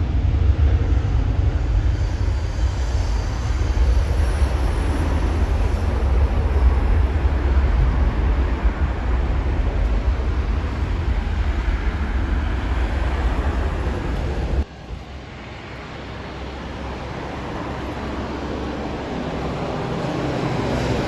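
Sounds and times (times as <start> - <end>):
low rumbling noise: 0.0 - 18.1.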